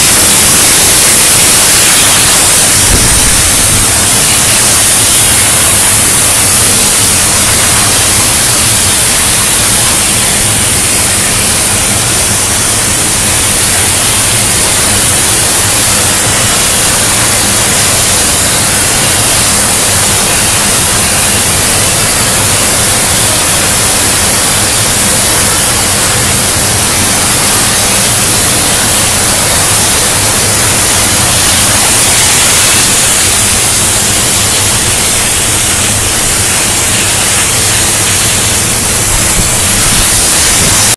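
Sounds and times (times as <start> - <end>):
cutting torch hissing: 0.0 - 40.9.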